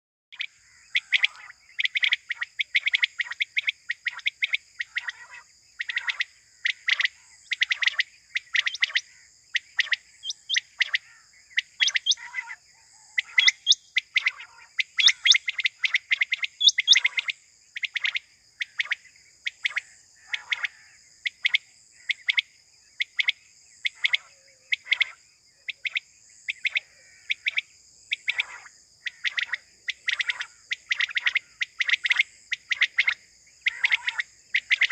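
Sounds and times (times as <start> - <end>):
quail calling: 0.4 - 22.4, 23.1 - 34.9.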